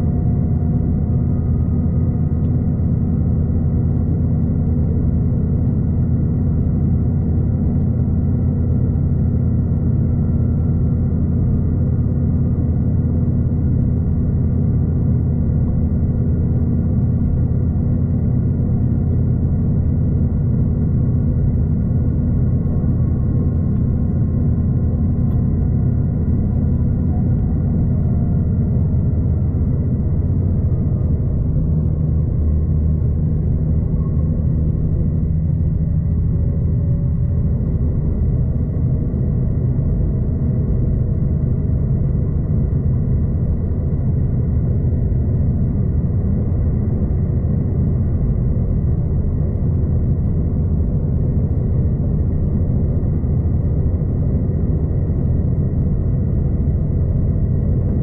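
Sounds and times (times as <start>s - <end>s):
train rumble inside carriage: 0.0s - 58.0s.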